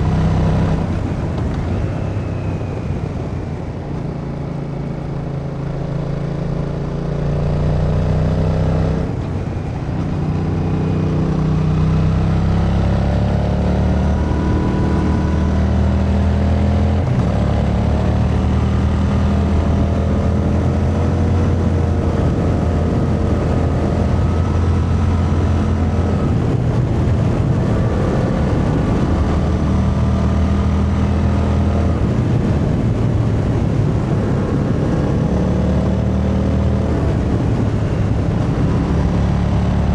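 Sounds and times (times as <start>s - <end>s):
motorcycle engine under way: 3.5s - 39.9s.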